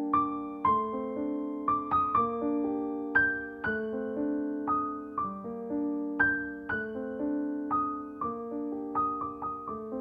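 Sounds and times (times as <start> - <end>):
slow keyboard music: 0.0 - 10.0.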